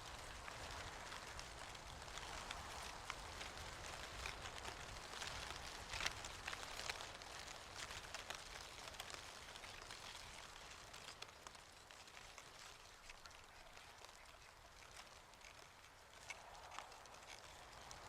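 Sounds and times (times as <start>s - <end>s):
dry leaves crackling: 0.1s - 18.0s.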